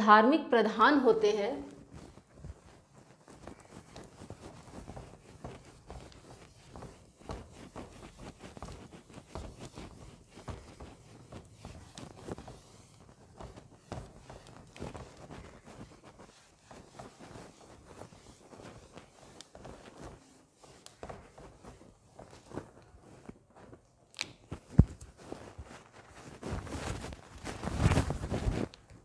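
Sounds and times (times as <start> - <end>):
cloth scrubbing a whiteboard: 1.0 - 29.0.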